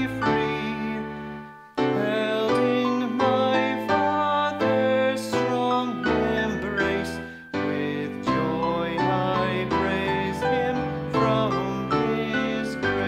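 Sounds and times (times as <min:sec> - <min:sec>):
hymn singing with accompaniment: 0:00.0 - 0:13.0.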